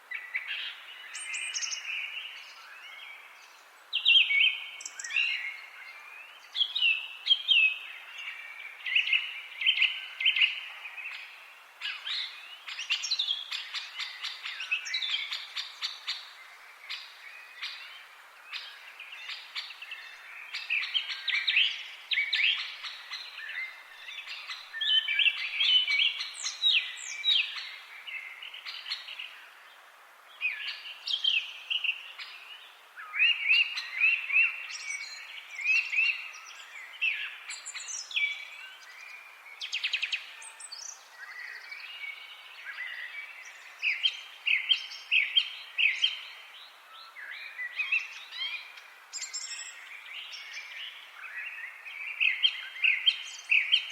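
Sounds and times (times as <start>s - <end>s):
faint outdoor background noise: 0.0s - 53.9s
songbirds chirping and trilling: 0.0s - 53.9s.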